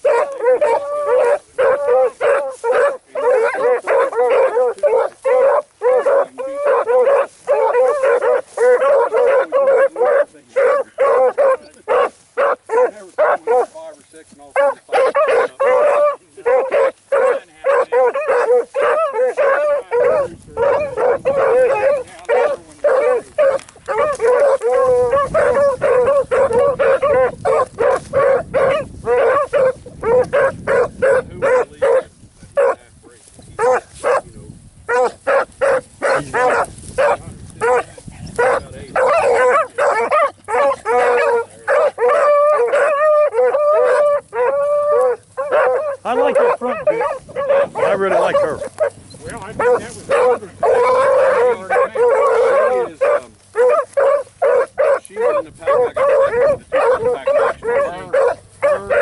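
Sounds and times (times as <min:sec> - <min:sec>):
hounds barking: 0:00.0 - 0:32.9, 0:33.5 - 0:59.0.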